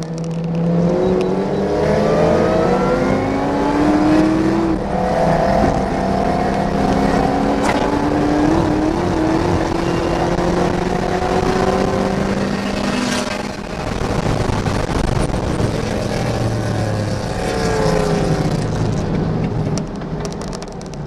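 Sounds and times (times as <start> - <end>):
car engine accelerating hard: 0.0 - 19.9.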